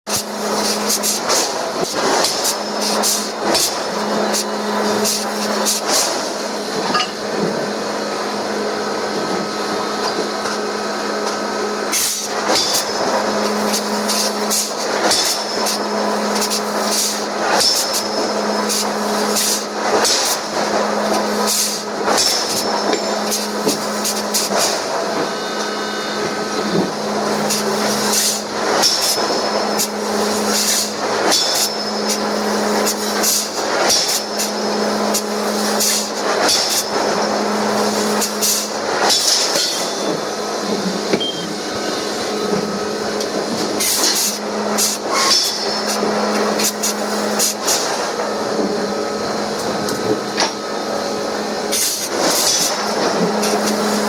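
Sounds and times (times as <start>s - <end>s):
forging machine hum: 0.1s - 54.0s.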